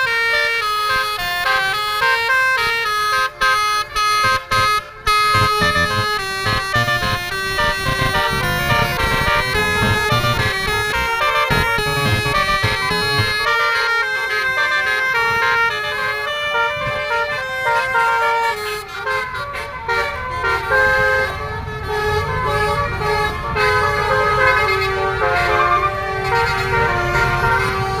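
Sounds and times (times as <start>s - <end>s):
multi-tone air horn tune: 0.0s - 28.0s.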